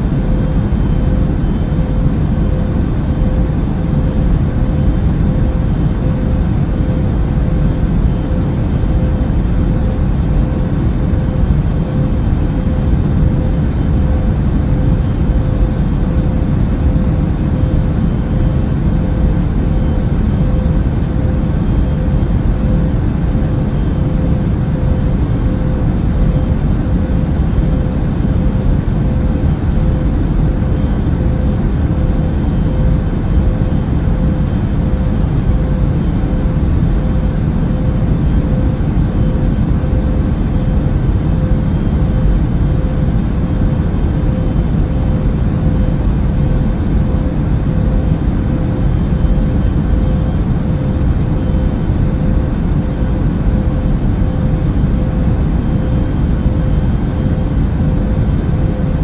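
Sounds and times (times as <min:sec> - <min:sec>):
airplane cabin engine noise: 0:00.0 - 0:59.0
thin steady hum: 0:00.0 - 0:59.0.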